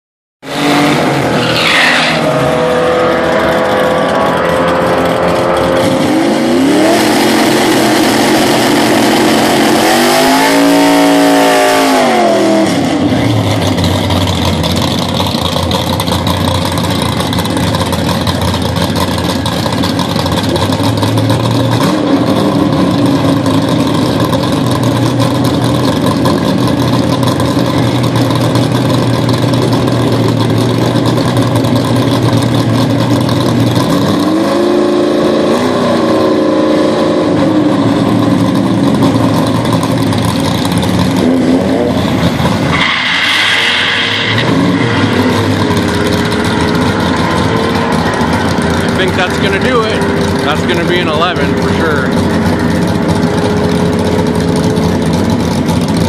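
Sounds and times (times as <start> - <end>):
car engine revving hard: 0.4 - 56.0
car engine idling: 2.3 - 9.8, 12.8 - 34.3, 37.2 - 43.2, 44.3 - 56.0.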